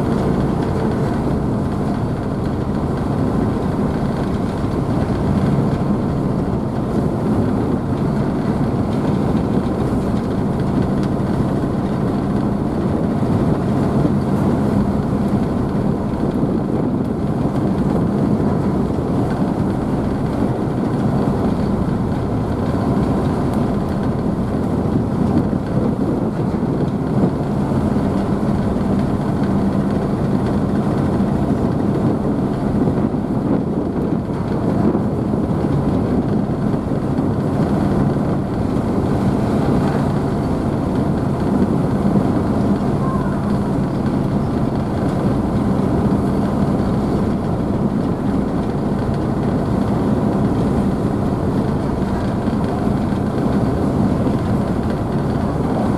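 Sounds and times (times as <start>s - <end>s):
churned water rushing: 0.0s - 55.9s
ferry engines droning: 0.0s - 55.9s.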